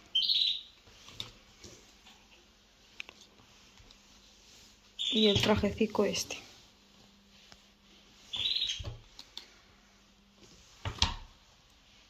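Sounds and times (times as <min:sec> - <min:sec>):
clothes rustling: 0:00.8 - 0:12.0.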